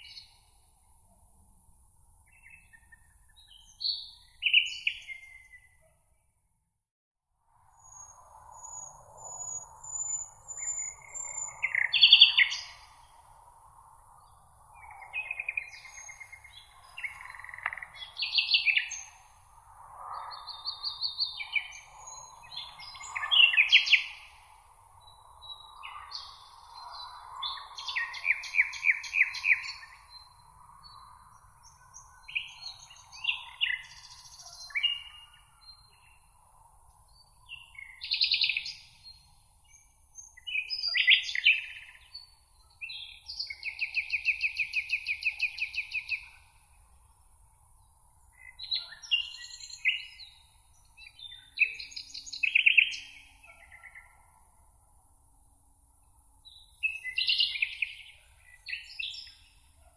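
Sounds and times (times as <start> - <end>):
songbirds chirping and trilling: 0.0 - 6.3, 7.8 - 59.9.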